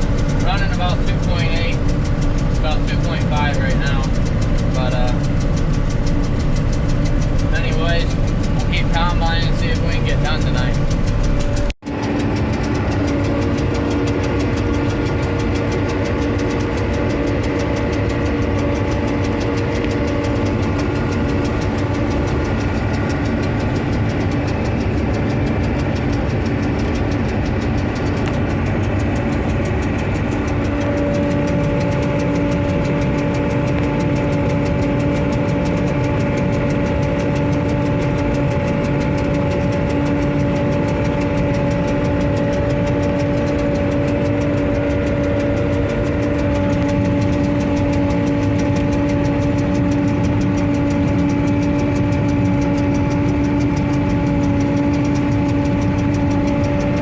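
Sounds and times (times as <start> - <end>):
combine harvester droning: 0.0 - 57.0
machinery whining tones: 0.0 - 57.0.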